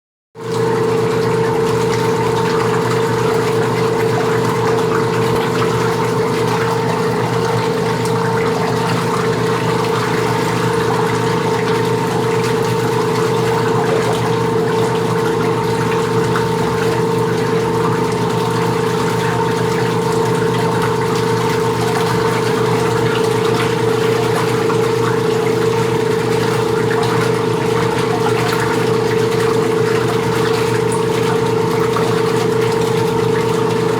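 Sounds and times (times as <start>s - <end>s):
washing machine running: 0.4s - 33.9s.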